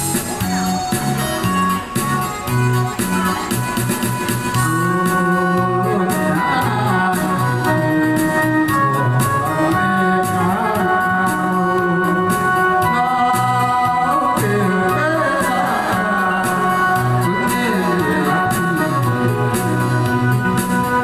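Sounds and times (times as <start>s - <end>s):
electronic organ melody: 0.0s - 21.0s
repeating bass beat: 0.0s - 21.0s.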